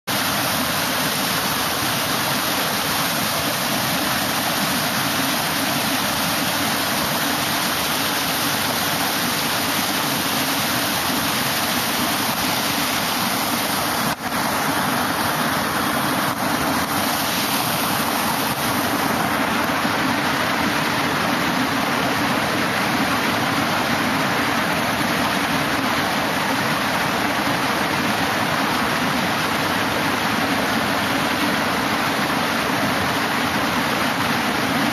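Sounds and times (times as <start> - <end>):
water pouring down concrete weirs: 0.1 - 34.9.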